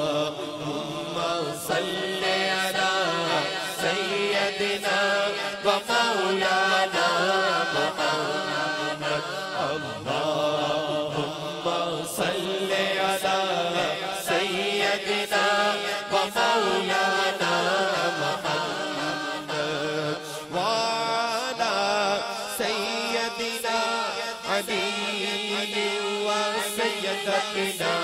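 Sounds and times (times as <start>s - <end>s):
men chanting into microphones: 0.0s - 28.0s.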